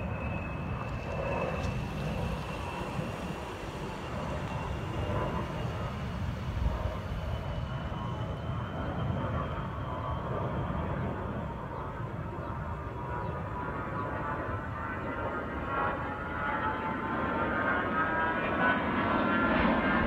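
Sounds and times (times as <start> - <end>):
jets flying over: 0.0 - 20.0.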